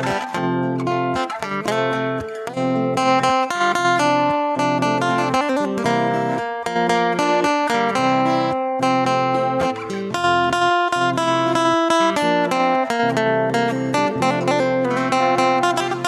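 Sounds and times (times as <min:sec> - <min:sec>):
guitar playing chords: 0:00.0 - 0:16.0.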